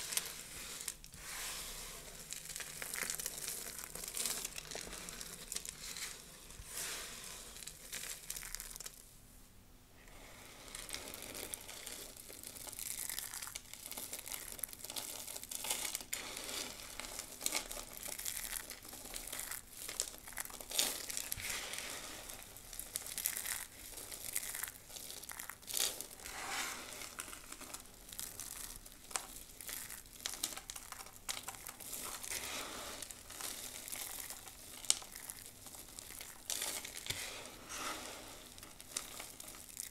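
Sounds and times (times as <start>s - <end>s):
dry soap crumbling crunches: 0.0s - 9.0s, 10.2s - 39.9s.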